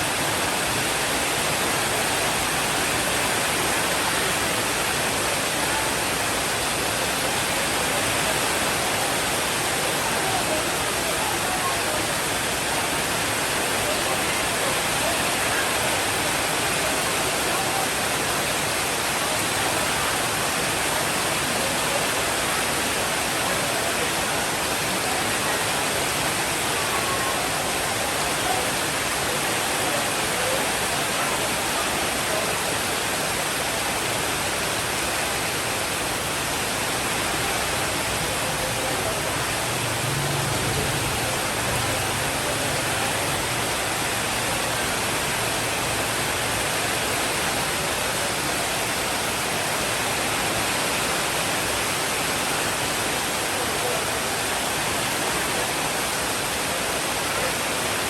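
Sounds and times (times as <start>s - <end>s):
heavy rainfall: 0.0s - 58.0s.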